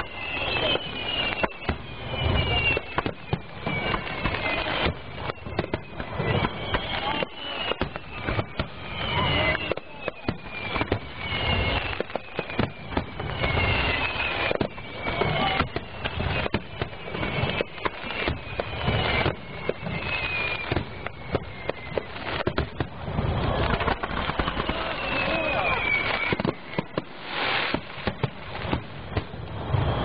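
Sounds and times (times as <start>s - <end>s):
fireworks shells bursting: 0.0s - 29.8s
firework whistles falling in pitch: 0.0s - 30.0s.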